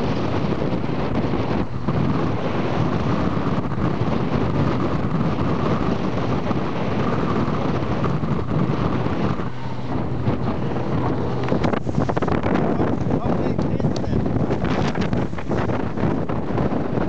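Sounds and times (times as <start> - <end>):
boat engine drone: 0.0 - 17.0
wind buffeting microphone: 0.0 - 17.0.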